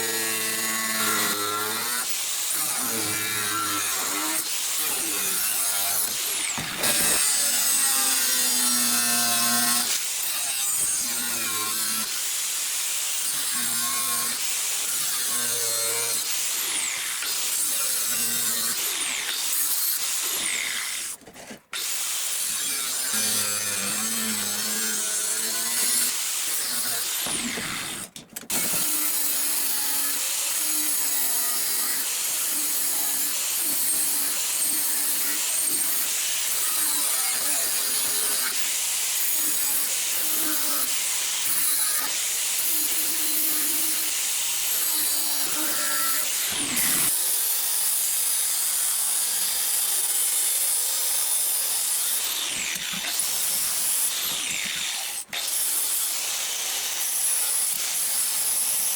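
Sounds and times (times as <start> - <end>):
power tool grinding steel: 0.0 - 58.9.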